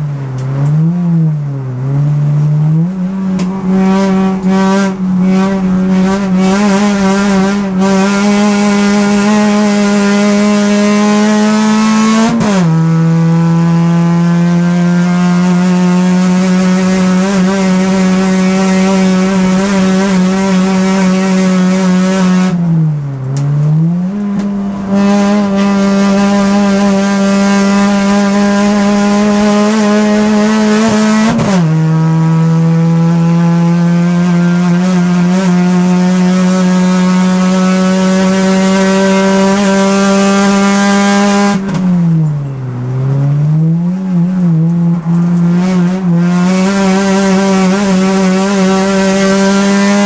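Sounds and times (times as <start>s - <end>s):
race car engine running hard: 0.0s - 50.0s.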